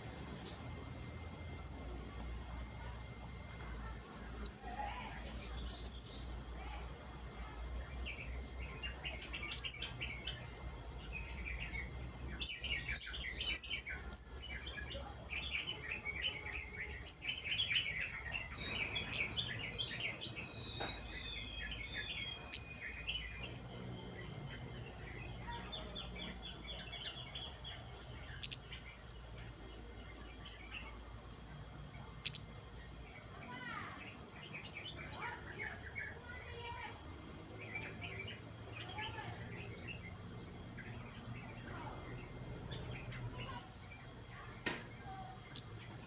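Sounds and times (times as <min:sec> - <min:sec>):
birds twittering: 0:00.0 - 0:46.0
high sharp bird calls: 0:01.6 - 0:02.0, 0:04.4 - 0:06.7, 0:08.0 - 0:32.5, 0:33.5 - 0:45.8.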